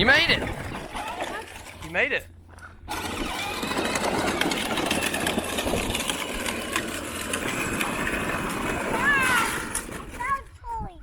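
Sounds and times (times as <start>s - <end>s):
ride-on toy tractor running: 0.0s - 10.8s.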